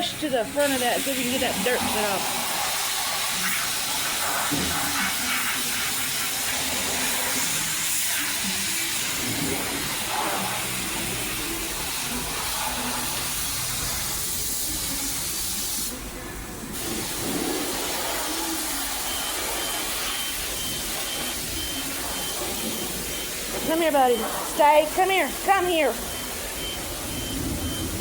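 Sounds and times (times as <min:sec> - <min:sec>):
high-pressure water spray hissing: 0:00.0 - 0:28.0.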